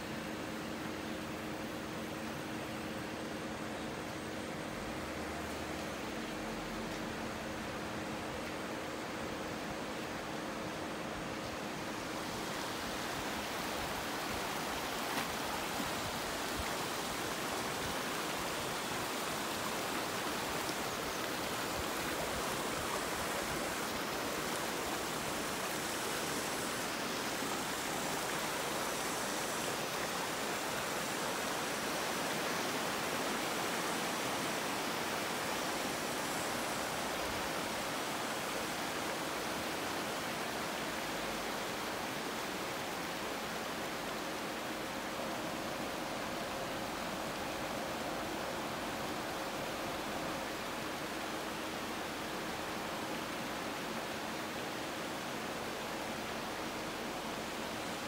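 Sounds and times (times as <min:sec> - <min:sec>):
stream rushing over stones: 0:04.6 - 0:58.0.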